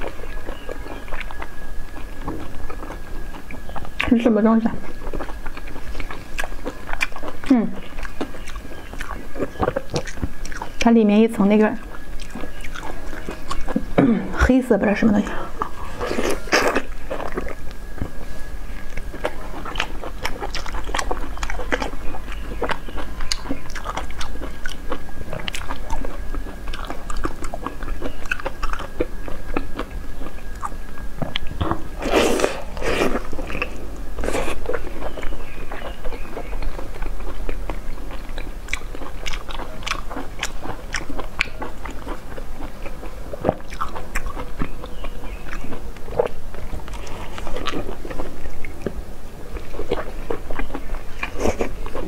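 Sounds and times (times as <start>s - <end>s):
person chewing and lip-smacking: 0.0s - 4.2s, 4.8s - 10.9s, 11.8s - 14.0s, 15.5s - 49.0s, 49.6s - 52.0s.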